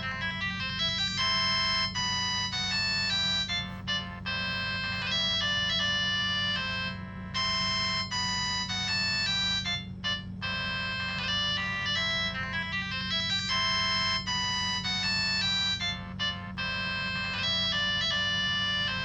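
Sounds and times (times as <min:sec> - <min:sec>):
polyphonic phone ringtone: 0:00.0 - 0:19.0
steady low hum: 0:00.0 - 0:19.0.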